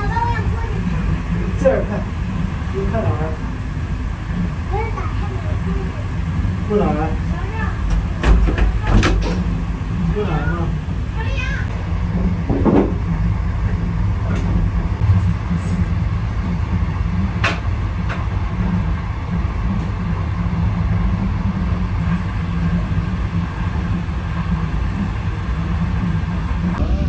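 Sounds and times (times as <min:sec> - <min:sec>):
vehicle rumbling: 0:00.0 - 0:27.0.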